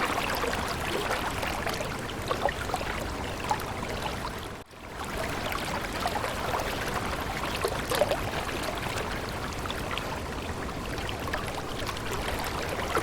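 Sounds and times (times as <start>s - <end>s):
small stream running: 0.0s - 13.0s.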